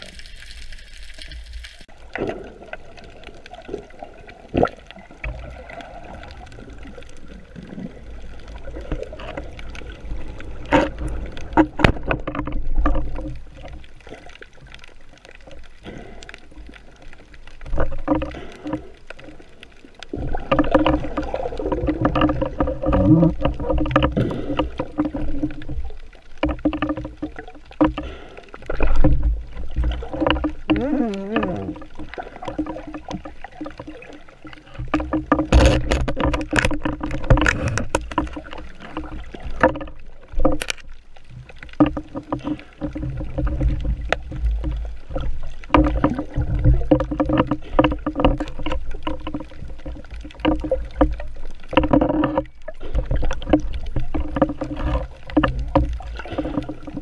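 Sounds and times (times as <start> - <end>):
water swishing and gurgling: 0.0 - 57.0.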